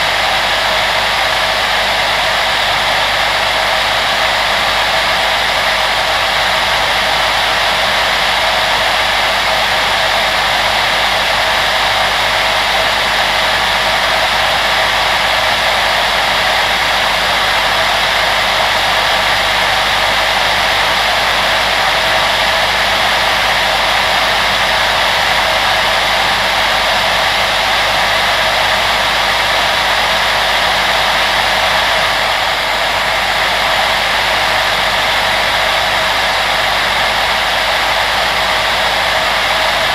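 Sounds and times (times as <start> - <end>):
fan blower rushing air: 0.0 - 39.9.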